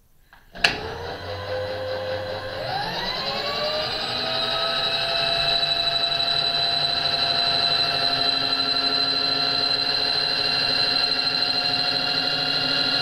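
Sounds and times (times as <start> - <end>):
high motor whine: 0.6 - 13.0.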